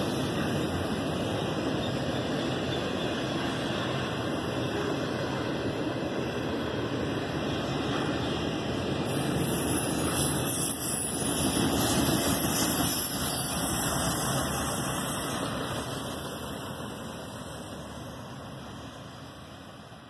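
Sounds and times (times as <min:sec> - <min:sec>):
train wheels rolling on rails: 0:00.0 - 0:20.0.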